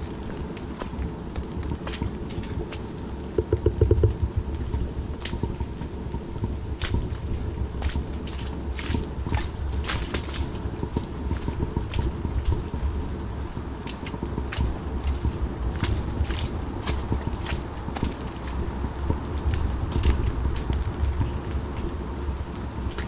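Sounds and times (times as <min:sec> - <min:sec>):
footsteps on muddy track: 0:00.0 - 0:23.0.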